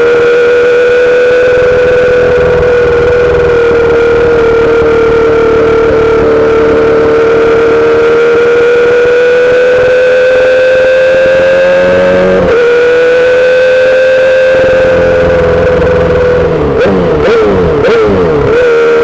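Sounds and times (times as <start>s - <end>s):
motorcycle engine at steady revs: 0.0s - 19.0s.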